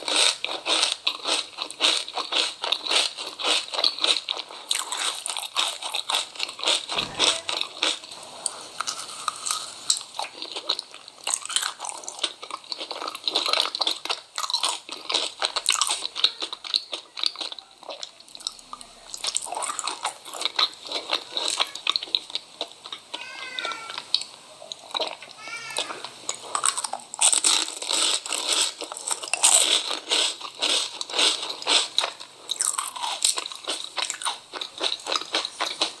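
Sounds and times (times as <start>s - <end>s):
crunchy chewing of food: 0.0s - 36.0s.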